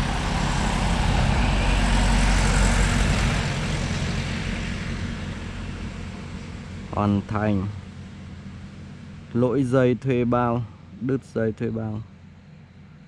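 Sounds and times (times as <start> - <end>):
vehicle driving past: 0.0 - 13.0.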